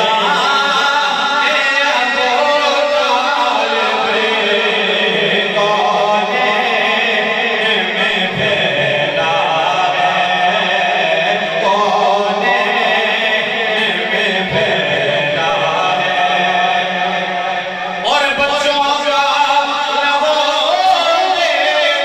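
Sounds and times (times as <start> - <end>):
man chanting in long held notes: 0.0 - 22.0.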